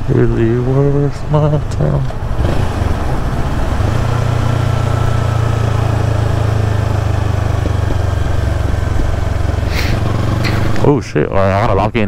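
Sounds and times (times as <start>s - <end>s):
motorcycle engine running: 0.0s - 11.0s
road and wind noise: 0.0s - 12.0s.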